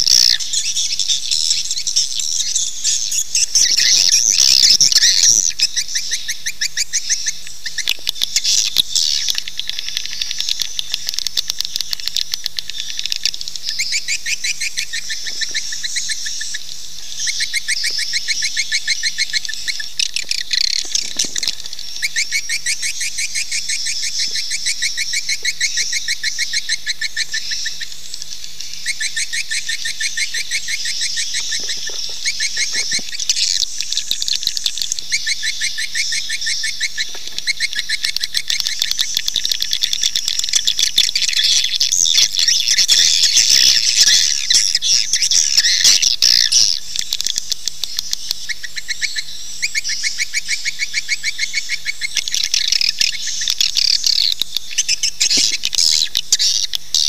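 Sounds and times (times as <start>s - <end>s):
recorded swiftlet twittering chirps: 0.0s - 57.0s.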